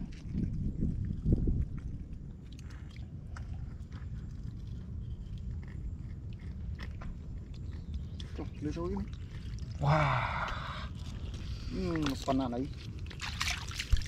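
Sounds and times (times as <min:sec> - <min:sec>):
low rumble: 0:00.0 - 0:11.8
wet clicks and squelches in mud: 0:00.0 - 0:14.0.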